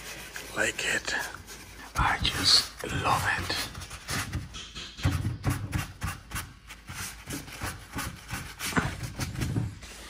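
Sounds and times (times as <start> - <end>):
rag rubbing on wood: 0.0 - 9.7.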